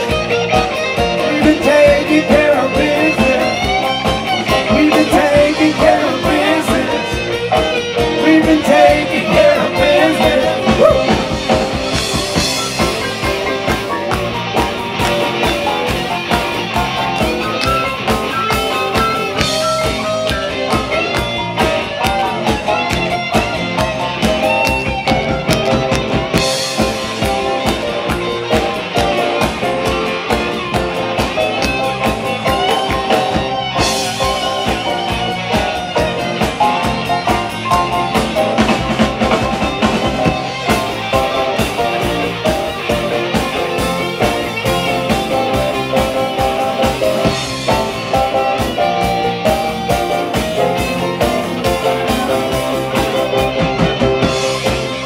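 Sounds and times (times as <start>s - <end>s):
bass guitar: 0.0s - 55.0s
drum kit beat: 0.0s - 55.0s
electric guitar: 0.0s - 55.0s.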